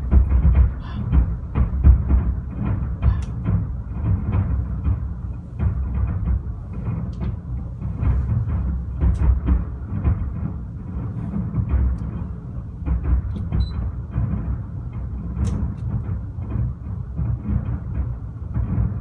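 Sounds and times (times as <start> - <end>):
fireworks booming: 0.0 - 19.0
fireworks cracks and bangs: 0.0 - 19.0.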